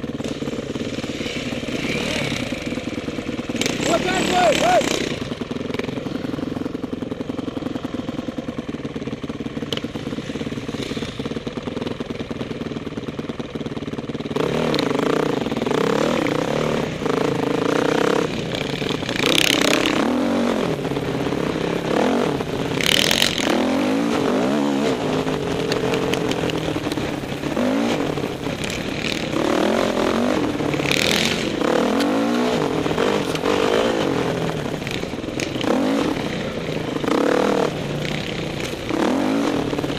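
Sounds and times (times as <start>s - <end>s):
dirt bike engine revving: 0.0s - 11.9s, 14.2s - 39.9s.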